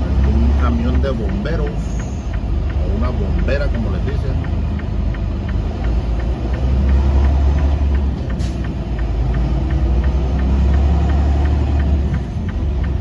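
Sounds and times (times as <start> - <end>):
diesel truck engine idling: 0.0 - 13.0
light regular ticking: 0.0 - 13.0.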